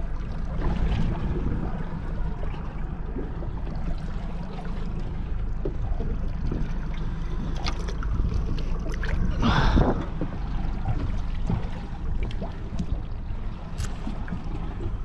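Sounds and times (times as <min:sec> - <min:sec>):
small boat rumble: 0:00.0 - 0:15.0.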